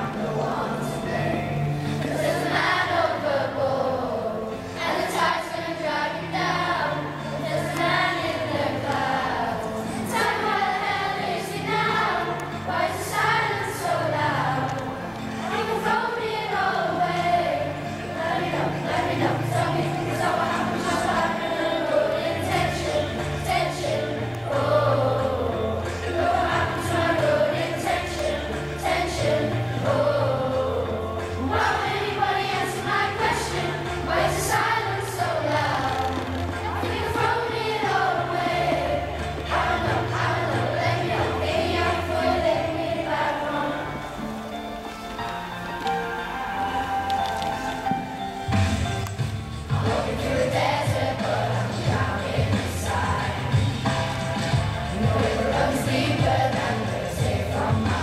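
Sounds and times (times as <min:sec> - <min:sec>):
children's choir singing: 0:00.0 - 0:58.0
low held accompaniment notes: 0:00.0 - 0:58.0.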